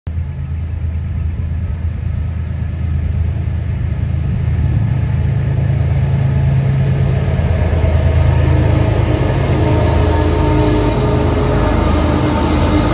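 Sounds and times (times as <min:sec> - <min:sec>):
diesel locomotive engine rumbling: 0:00.1 - 0:12.9.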